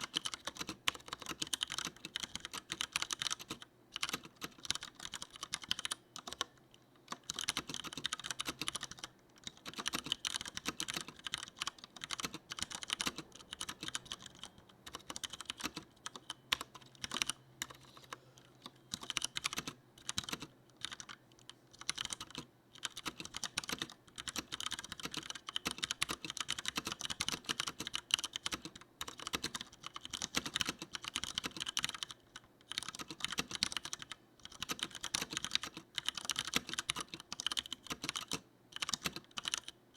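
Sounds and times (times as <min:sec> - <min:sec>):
typing on mechanical keyboard: 0:00.0 - 0:39.8.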